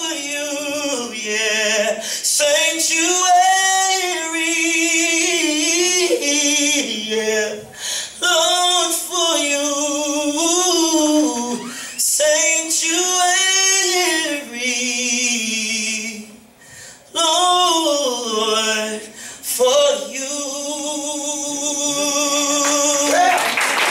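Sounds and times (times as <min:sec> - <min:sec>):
man singing through microphone: 0:00.0 - 0:16.5, 0:17.1 - 0:23.9.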